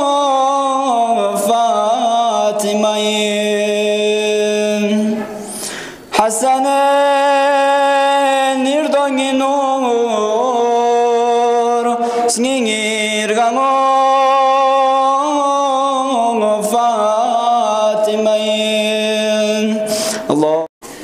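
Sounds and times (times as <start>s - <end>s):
person chanting: 0.0s - 20.7s.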